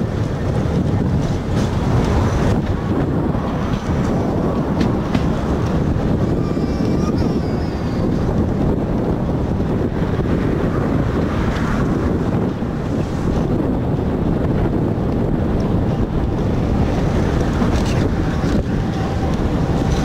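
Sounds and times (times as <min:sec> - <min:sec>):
tram rumbling on rails: 0:00.0 - 0:20.0
wind buffeting microphone: 0:00.0 - 0:20.0.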